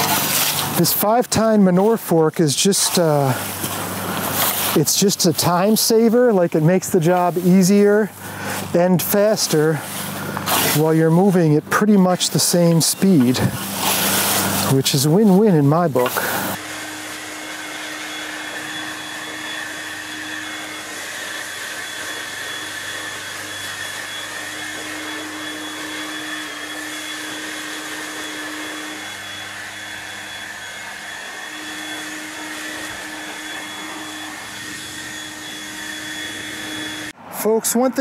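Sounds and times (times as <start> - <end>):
leaf blower running: 0.0 - 38.0.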